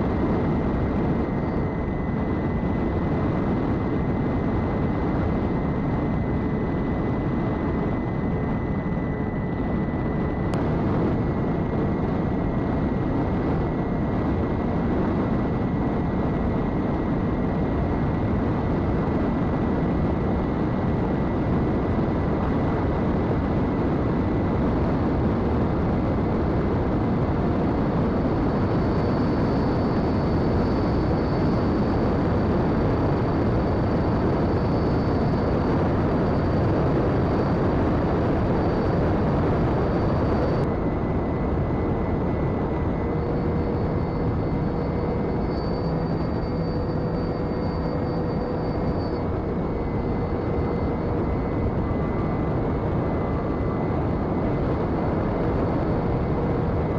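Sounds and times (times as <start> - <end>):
heavy rush of wind: 0.0 - 56.9.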